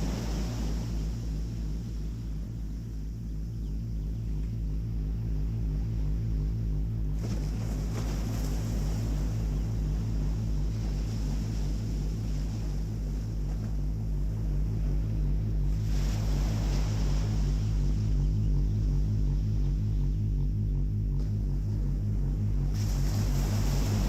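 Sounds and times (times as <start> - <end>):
pulsing synthesizer drone chord: 0.0 - 24.0.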